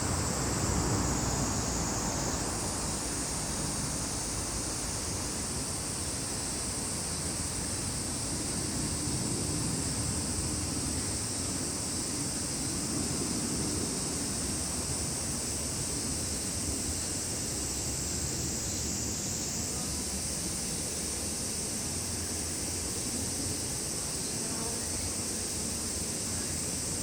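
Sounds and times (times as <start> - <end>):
insects buzzing: 0.0 - 27.0.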